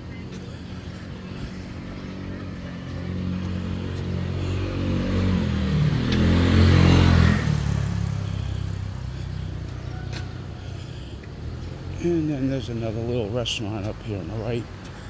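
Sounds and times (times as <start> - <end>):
motor vehicle passing: 0.0 - 13.2.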